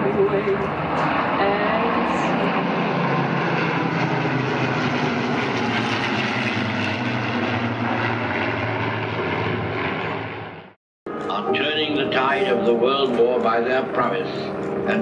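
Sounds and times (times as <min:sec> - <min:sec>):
propeller aircraft droning past: 0:00.0 - 0:15.0.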